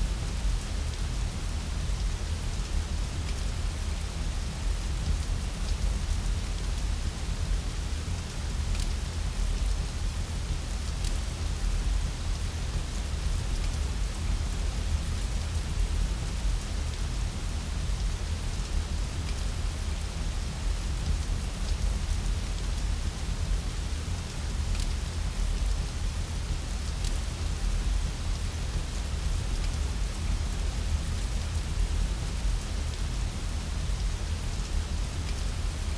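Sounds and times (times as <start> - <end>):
fire crackles: 0.0 - 35.9
rain hiss: 0.0 - 35.9.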